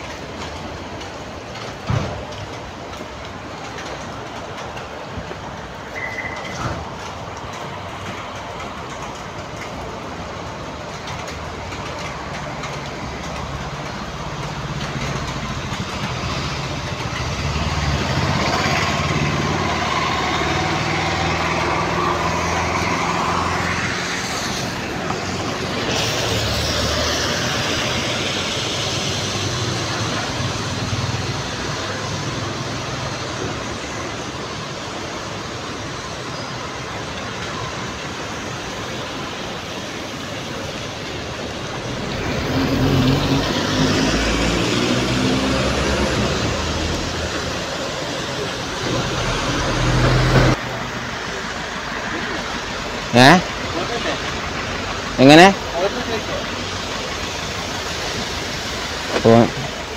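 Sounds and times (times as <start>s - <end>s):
vehicles passing on road: 0.0s - 59.9s.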